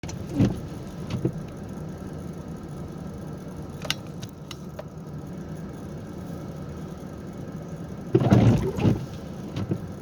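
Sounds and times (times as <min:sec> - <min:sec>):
car engine humming: 0:00.0 - 0:10.0.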